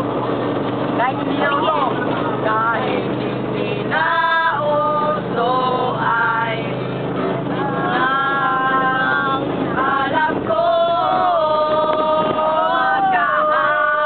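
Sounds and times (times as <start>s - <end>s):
bus engine hum: 0.0s - 14.0s
group of people singing: 2.2s - 14.0s.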